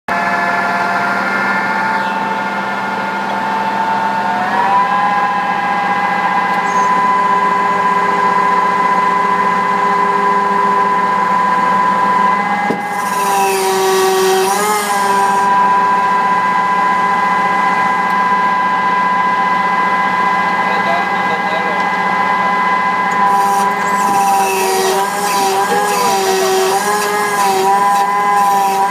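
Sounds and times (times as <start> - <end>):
concrete pump whining: 0.1 - 28.9.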